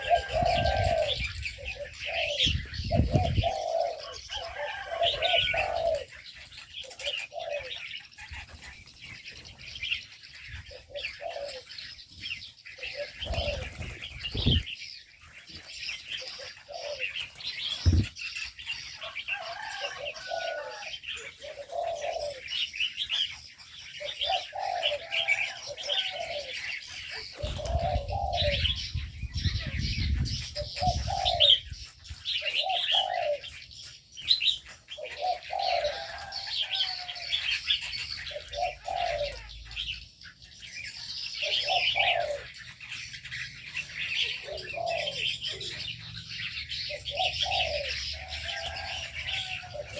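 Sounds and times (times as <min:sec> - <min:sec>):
doves cooing: 0:00.0 - 0:14.8, 0:15.5 - 0:40.0, 0:40.6 - 0:49.9
small birds chirping: 0:00.0 - 0:49.9.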